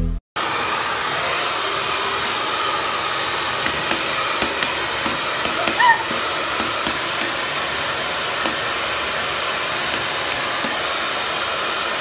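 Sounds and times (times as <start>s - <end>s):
hair dryer blowing air: 0.4s - 12.0s.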